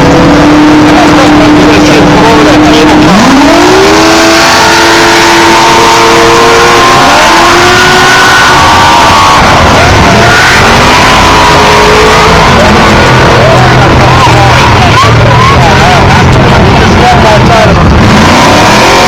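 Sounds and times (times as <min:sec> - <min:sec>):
off-road race vehicles revving: 0:00.0 - 0:19.0.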